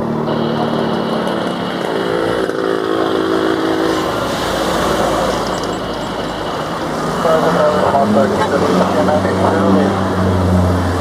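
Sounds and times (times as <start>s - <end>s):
jet engines humming at low thrust: 0.0s - 11.0s.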